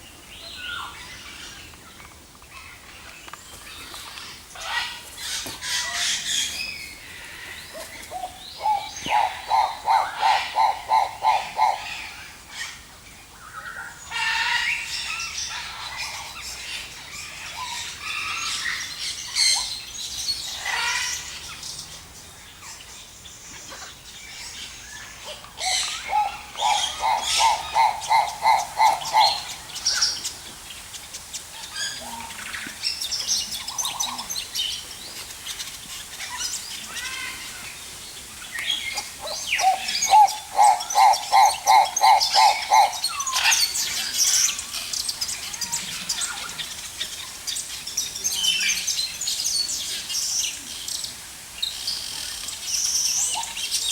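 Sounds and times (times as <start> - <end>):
birds chirping and twittering: 0.0 - 53.9.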